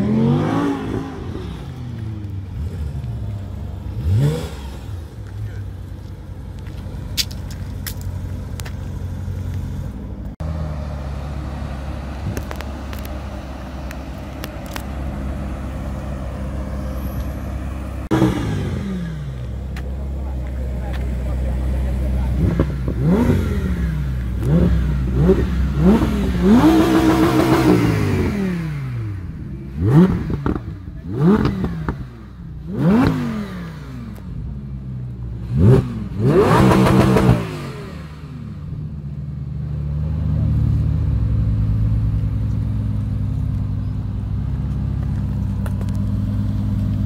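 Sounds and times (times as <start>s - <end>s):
car engine revving: 0.0s - 47.0s
car engine idling: 1.1s - 33.2s, 34.0s - 47.0s.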